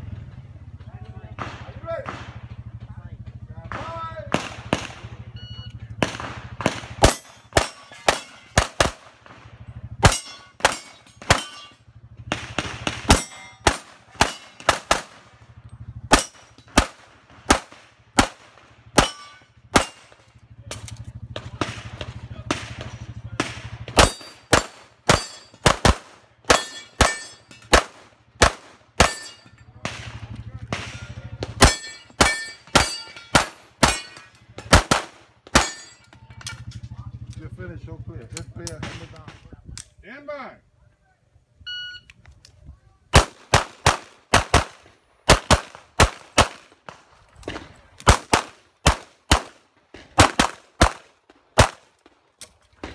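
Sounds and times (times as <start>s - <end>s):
pistol gunshots: 1.3s - 2.7s, 3.6s - 15.5s, 16.1s - 36.0s, 38.6s - 39.4s, 43.1s - 52.9s.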